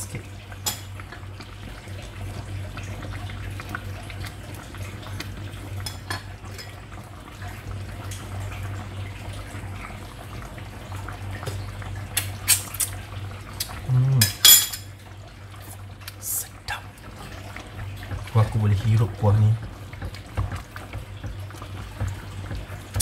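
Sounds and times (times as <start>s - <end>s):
curry bubbling in a pot: 0.0s - 23.0s.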